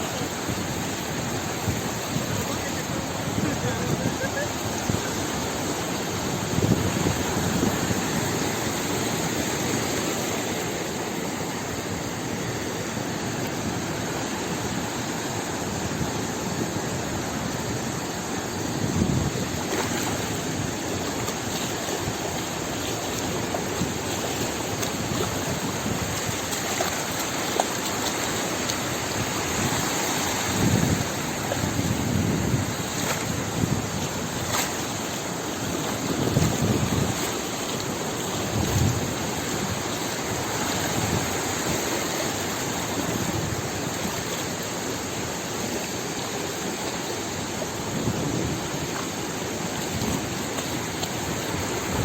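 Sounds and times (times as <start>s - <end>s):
waves and rushing sea water: 0.0s - 52.0s.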